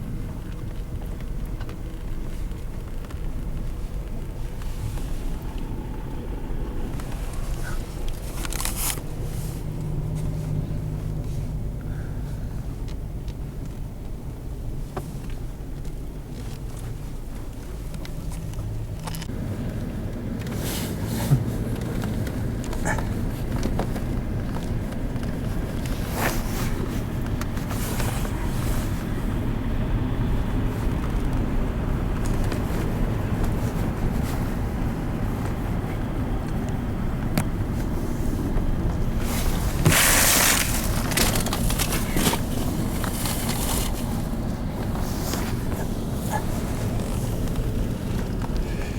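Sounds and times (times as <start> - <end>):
truck engine humming: 0.0 - 48.9.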